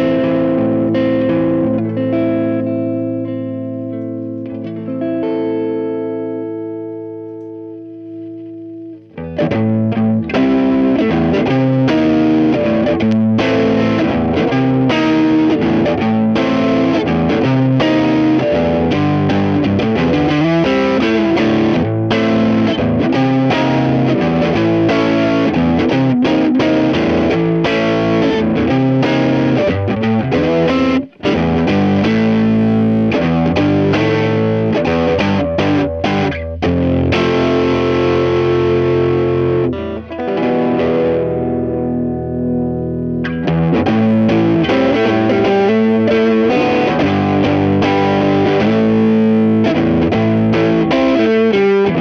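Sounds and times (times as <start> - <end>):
overdriven electric guitar: 0.0 - 52.0.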